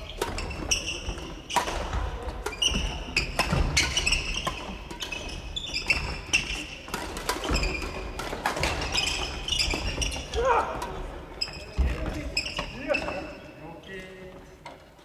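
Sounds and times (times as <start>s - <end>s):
sneakers squeaking on wooden floor: 0.0s - 14.6s.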